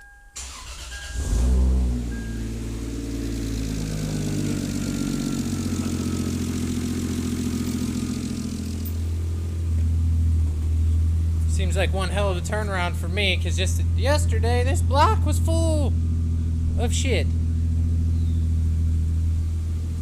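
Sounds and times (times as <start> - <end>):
car engine cranking and idling: 0.0 - 20.0.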